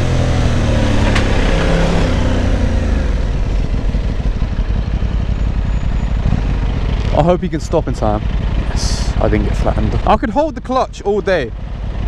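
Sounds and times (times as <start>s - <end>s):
motorcycle engine slowing: 0.0s - 12.0s
road and wind noise: 0.0s - 12.0s.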